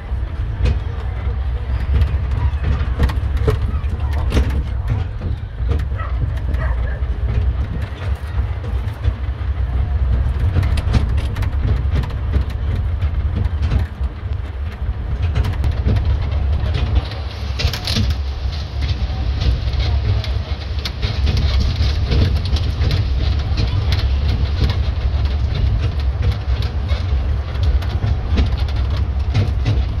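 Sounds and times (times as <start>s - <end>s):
carriage rattling and clicking: 0.0s - 30.0s
low engine rumble: 0.0s - 30.0s.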